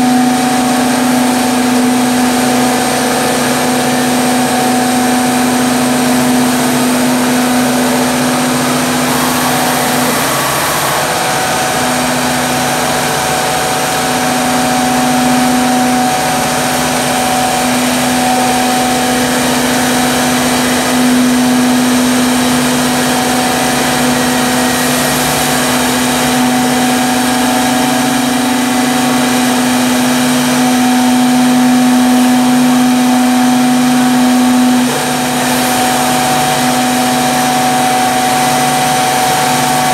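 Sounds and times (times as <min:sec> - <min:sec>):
low pulsing tone: 0:00.0 - 0:39.9
router spindles whining: 0:00.0 - 0:39.9.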